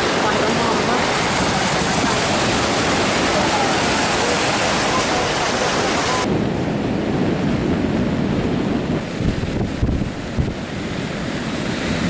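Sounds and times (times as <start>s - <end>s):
heavy surf breaking: 0.0s - 12.0s
wind buffeting microphone: 0.0s - 12.0s.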